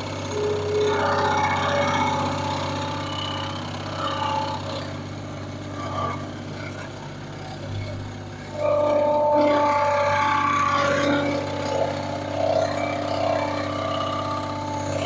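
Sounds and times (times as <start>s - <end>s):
saw whining: 0.0s - 15.0s
sawmill engine running: 0.0s - 15.0s.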